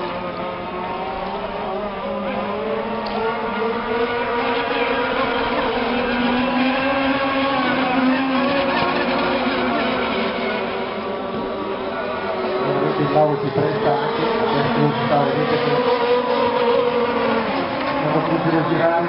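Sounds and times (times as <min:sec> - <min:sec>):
model boat motor high-pitched drone: 0:00.0 - 0:19.0.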